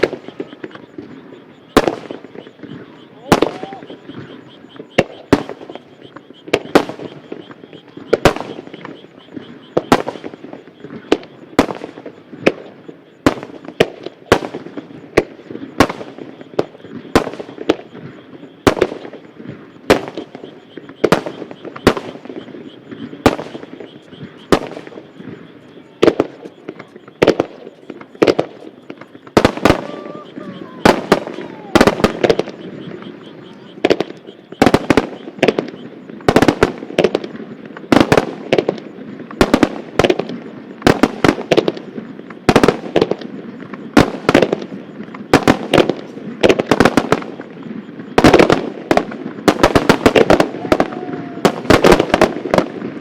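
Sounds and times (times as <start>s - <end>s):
firework shells bursting: 1.6s - 53.0s.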